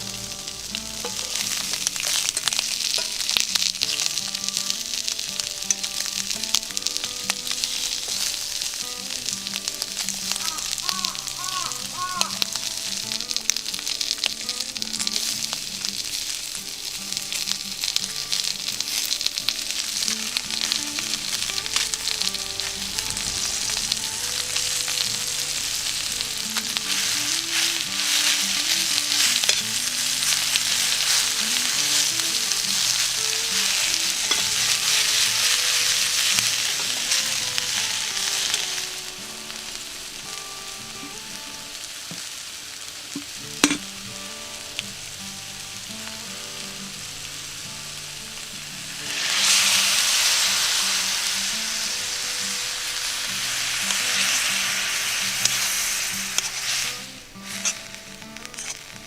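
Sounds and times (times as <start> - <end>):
food sizzling in a skillet: 0.0 - 59.0.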